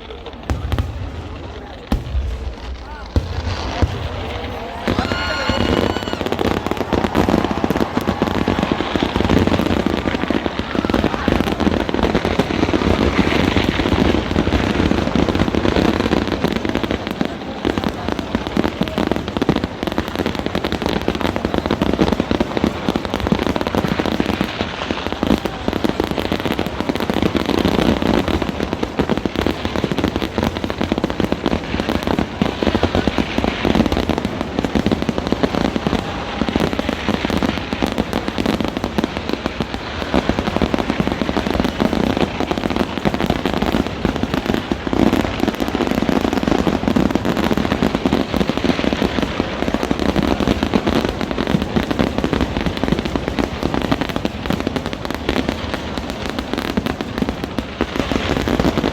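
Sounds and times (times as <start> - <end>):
firecrackers bursting: 0.0 - 58.9.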